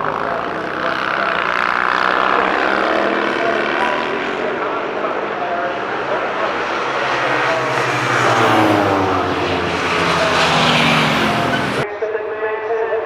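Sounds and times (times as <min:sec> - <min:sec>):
racing sidecar engine passing: 0:00.0 - 0:11.8.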